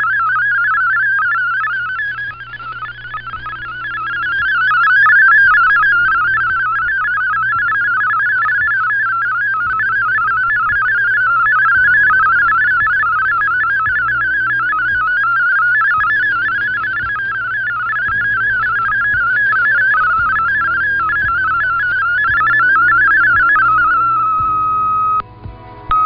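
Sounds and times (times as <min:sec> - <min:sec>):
digital radio signal warble: 0:00.0 - 0:25.2
low steady tones: 0:00.0 - 0:26.0.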